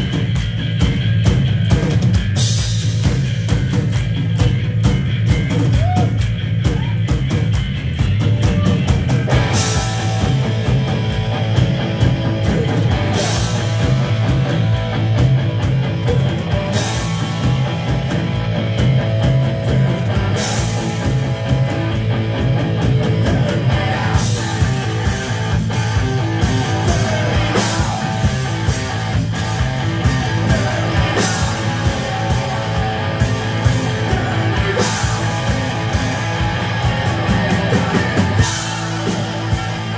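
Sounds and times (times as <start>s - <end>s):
bass guitar: 0.0s - 39.9s
distorted electric guitars: 0.0s - 39.9s
drum kit fast beat: 0.0s - 39.9s.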